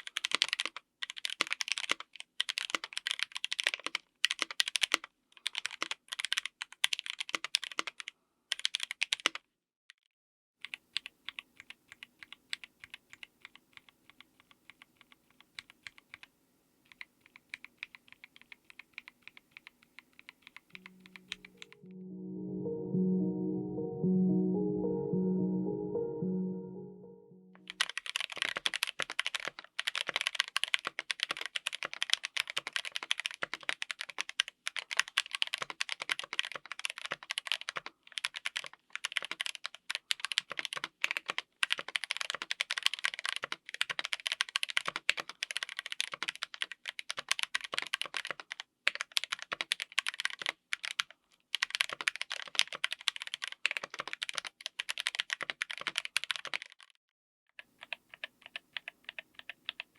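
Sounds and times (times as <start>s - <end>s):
fast mechanical keyboard typing: 0.0s - 9.4s, 10.6s - 16.3s, 16.9s - 21.6s, 27.7s - 57.0s, 57.6s - 59.9s.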